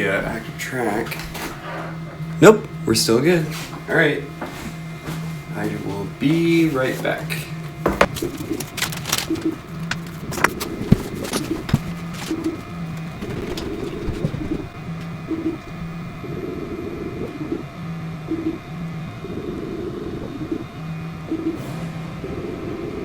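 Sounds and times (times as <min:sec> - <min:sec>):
stepper motors humming: 0:00.0 - 0:23.0.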